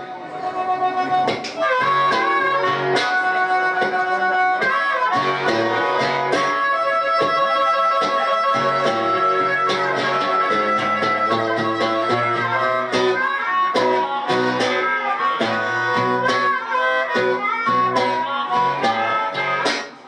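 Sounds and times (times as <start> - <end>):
blues harmonica: 0.0 - 20.0
strummed acoustic guitar: 0.0 - 20.0.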